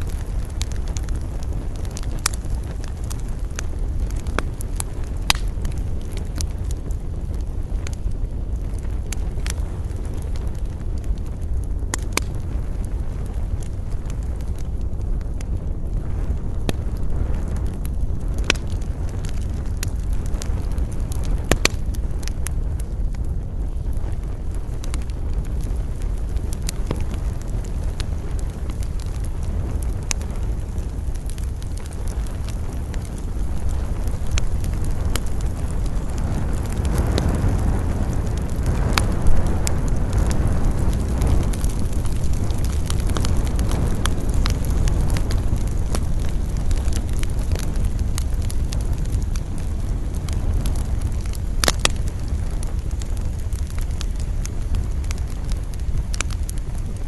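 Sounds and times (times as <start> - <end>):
campfire crackling and popping: 0.0 - 57.0
low wind rumble: 0.0 - 57.0.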